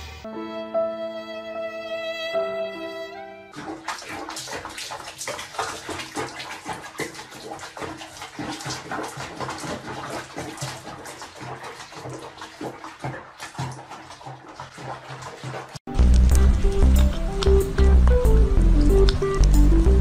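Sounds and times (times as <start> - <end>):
water splashing in a basin: 3.5 - 20.0.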